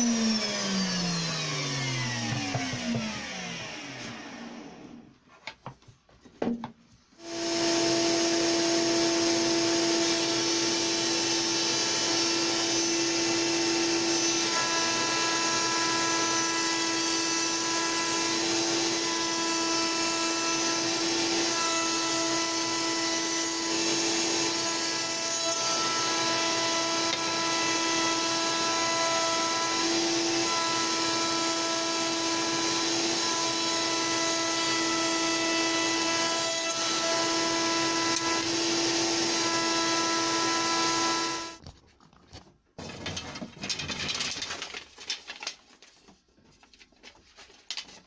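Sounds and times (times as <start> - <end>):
router whining: 0.0 - 5.2, 7.2 - 41.6.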